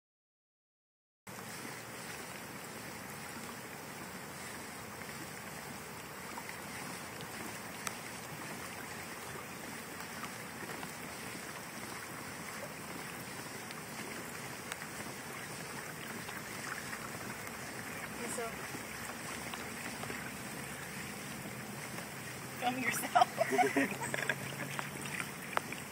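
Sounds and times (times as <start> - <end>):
water hissing around a kayak: 1.3 - 25.9.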